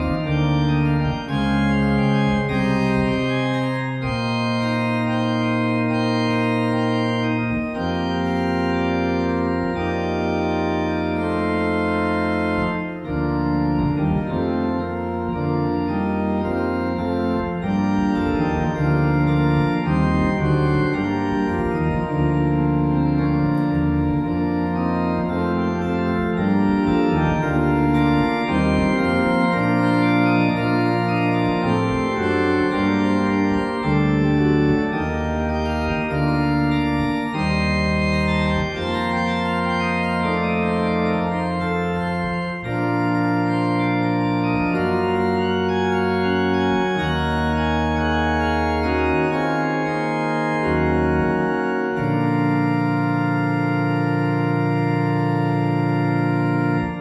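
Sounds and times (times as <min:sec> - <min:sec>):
church organ chords: 0:00.0 - 0:57.0.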